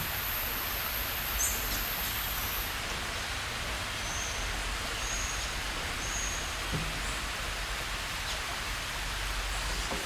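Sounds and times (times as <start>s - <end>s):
rainforest ambience hiss: 0.0s - 10.0s.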